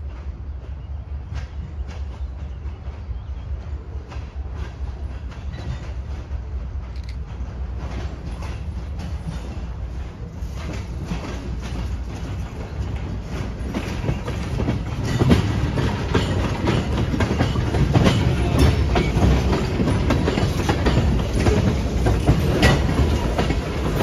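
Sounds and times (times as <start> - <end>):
freight train rumble: 0.0 - 24.0
wheel clicks and clanks on rails: 1.3 - 24.0.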